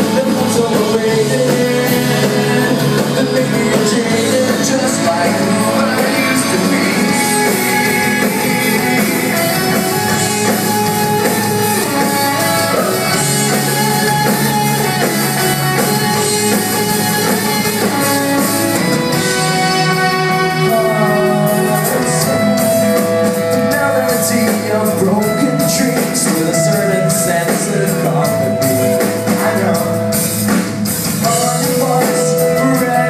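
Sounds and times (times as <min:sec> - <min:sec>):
live pop-rock band playing: 0:00.0 - 0:33.0.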